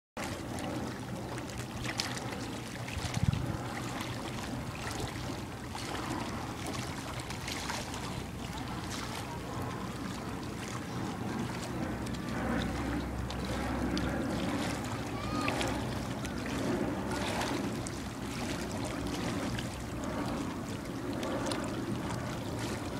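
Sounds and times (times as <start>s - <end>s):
small waves lapping: 0.2s - 22.9s
wind rushing over microphone: 0.2s - 22.9s.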